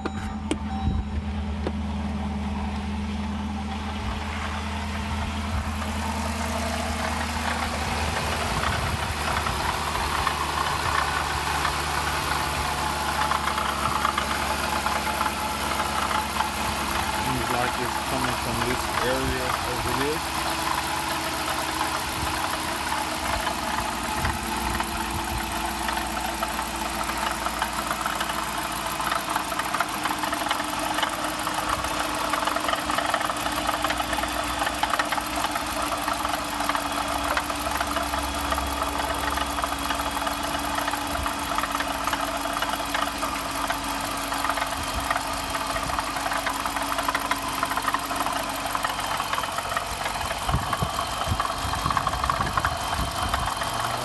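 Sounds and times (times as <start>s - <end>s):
car engine idling: 0.0s - 54.0s
fast rattling under the hood: 0.0s - 54.0s.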